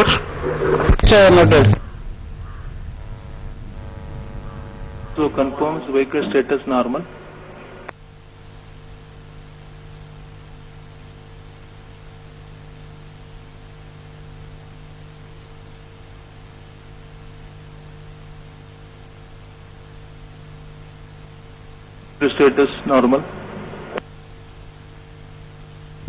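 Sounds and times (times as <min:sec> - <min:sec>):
steady electrical hum with hiss: 0:00.0 - 0:26.0.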